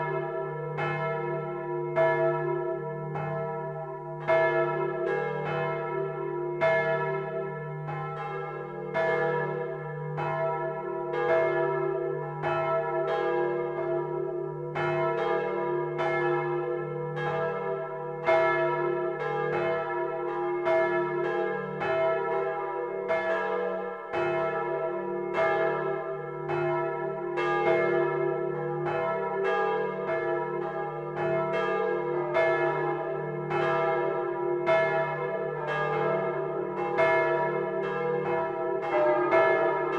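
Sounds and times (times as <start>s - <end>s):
church bells clapper strikes: 0.0s - 39.9s.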